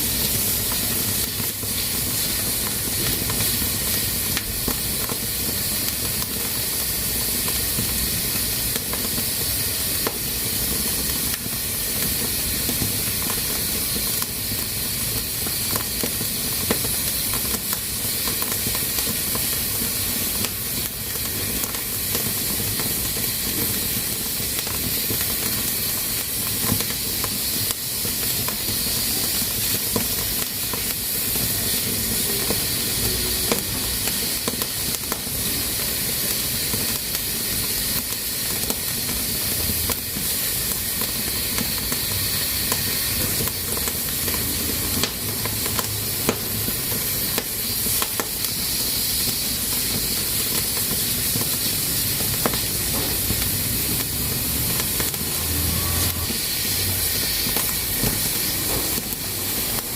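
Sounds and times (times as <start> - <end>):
pressure cooker hissing: 0.0 - 59.9.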